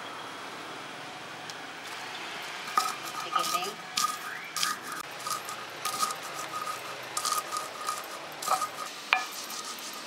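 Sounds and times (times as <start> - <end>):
stone pestle crushing peanuts: 1.9 - 10.0.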